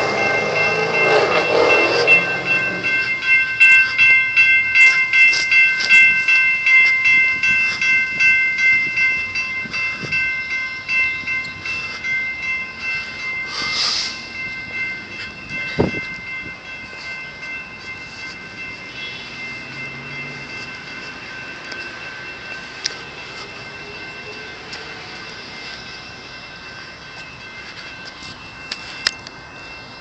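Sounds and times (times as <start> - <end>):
crossing bell dinging: 0.0 - 30.0.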